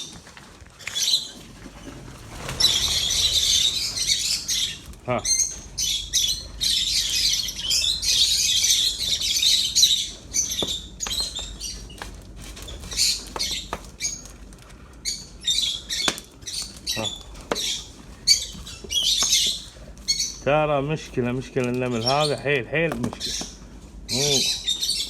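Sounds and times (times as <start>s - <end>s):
birds chattering and screeching: 0.0s - 25.0s.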